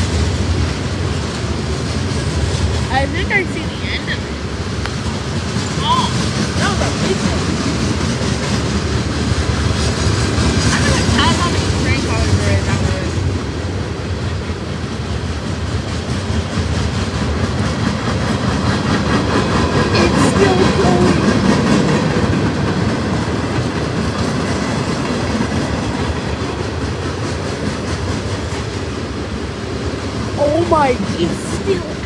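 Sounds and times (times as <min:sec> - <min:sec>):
freight train rolling past: 0:00.0 - 0:32.0
steel wheels clattering on rails: 0:00.0 - 0:32.0.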